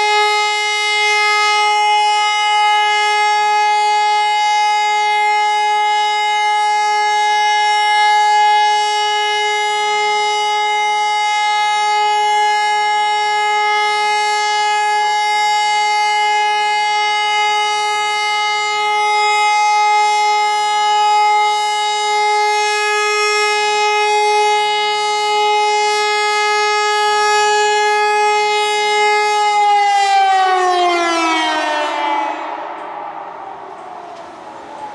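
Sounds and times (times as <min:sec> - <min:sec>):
siren steady tone: 0:00.0 - 0:34.9.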